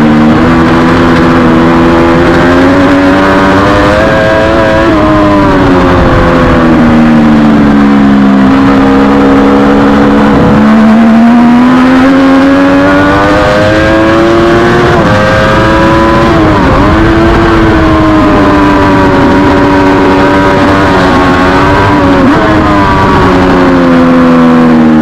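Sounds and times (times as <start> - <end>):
racing engine revving under load: 0.0 - 25.0.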